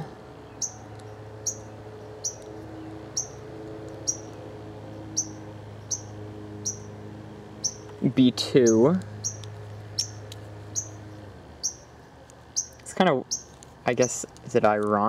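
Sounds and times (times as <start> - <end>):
bird chirping: 0.0 - 7.0, 7.6 - 14.3
steady low hum: 0.0 - 15.0.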